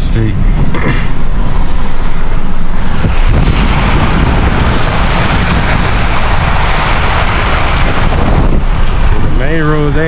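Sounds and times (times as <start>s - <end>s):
truck road noise on wet road: 0.0s - 10.0s
tyres and wind rushing: 0.0s - 10.0s.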